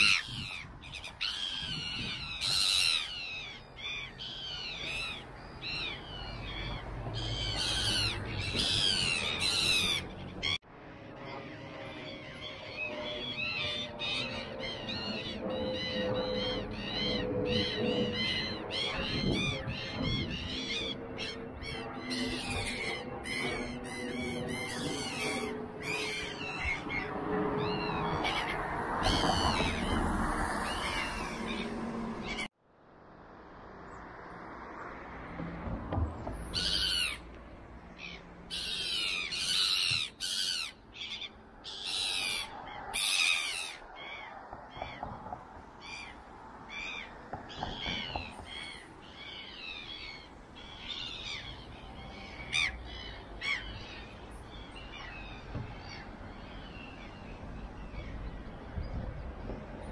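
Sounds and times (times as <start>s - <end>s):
birds chirping: 0.0s - 10.6s, 11.2s - 32.5s, 36.0s - 59.9s
harsh bird calls: 0.0s - 10.6s, 11.3s - 32.5s, 36.2s - 59.6s.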